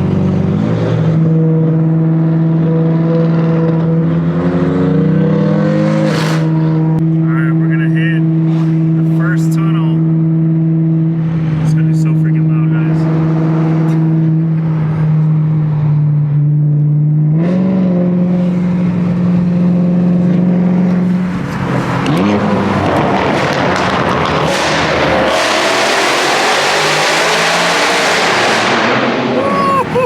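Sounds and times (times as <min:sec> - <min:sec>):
car engine and exhaust revving: 0:00.0 - 0:07.3, 0:10.0 - 0:29.4.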